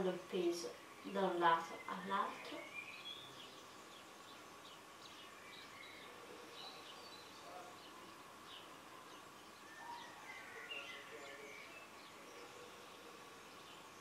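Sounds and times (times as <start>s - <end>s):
faint background hiss and hum: 0.0s - 14.0s
faint birds chirping: 0.0s - 14.0s.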